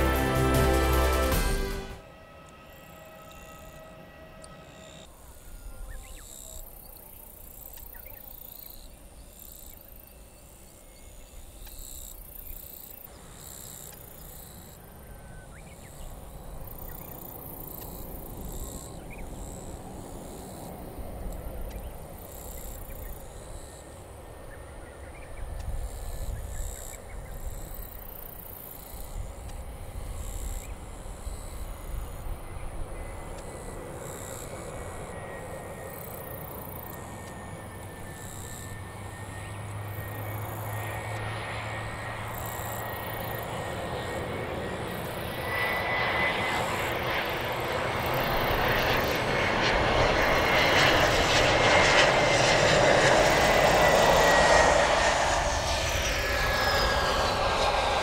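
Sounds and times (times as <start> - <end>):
airliner engine noise: 0.0 - 58.0
shrill pulsing insect chorus: 2.1 - 58.0.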